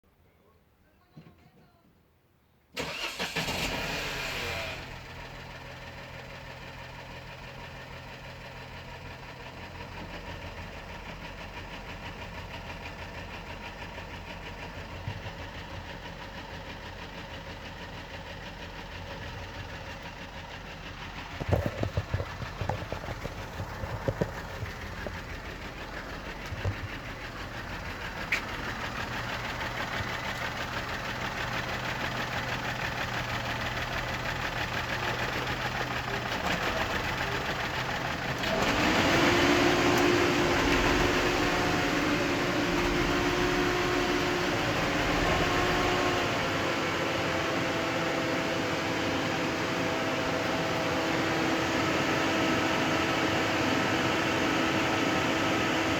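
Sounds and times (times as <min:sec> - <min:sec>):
car engine starting and idling: 0:02.8 - 0:55.9.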